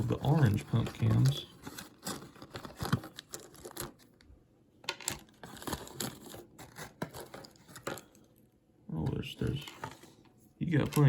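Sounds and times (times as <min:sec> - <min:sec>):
packaging crinkling and rustling: 0:00.0 - 0:08.3, 0:09.1 - 0:11.0.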